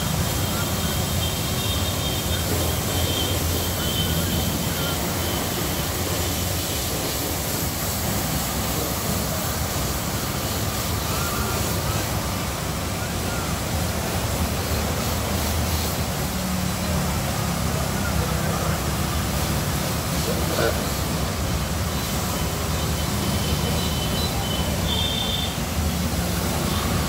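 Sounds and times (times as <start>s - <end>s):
pressure washer spray hissing: 0.0s - 27.0s.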